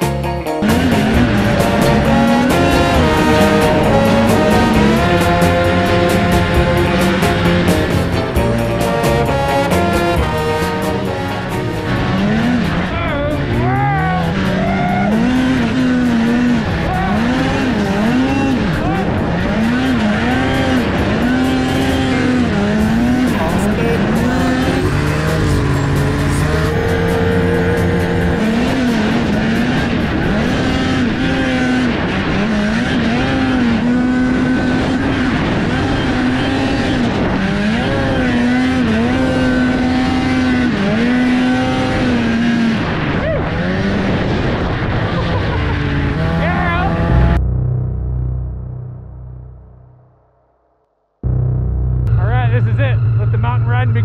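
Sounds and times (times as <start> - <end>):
snowmobile engine revving: 0.0 - 47.4, 51.2 - 54.0.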